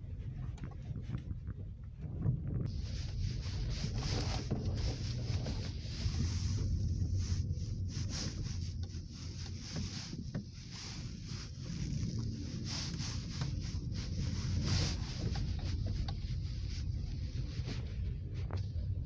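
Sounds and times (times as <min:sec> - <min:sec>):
engine and tyre rumble: 0:00.0 - 0:19.0
road and wind hiss: 0:02.6 - 0:19.0.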